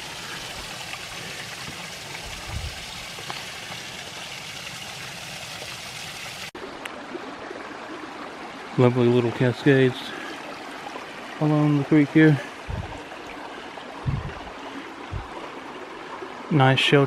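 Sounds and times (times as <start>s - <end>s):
water rushing down small waterfall: 0.0s - 16.4s.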